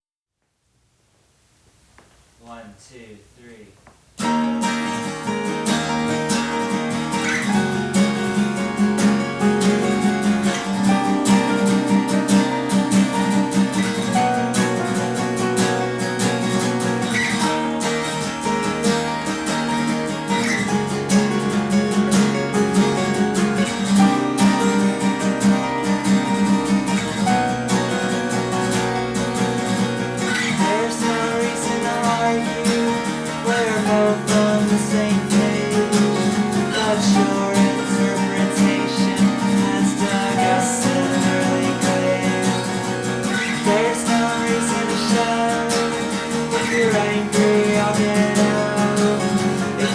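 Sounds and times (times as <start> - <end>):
strummed acoustic guitar: 4.2 - 49.9.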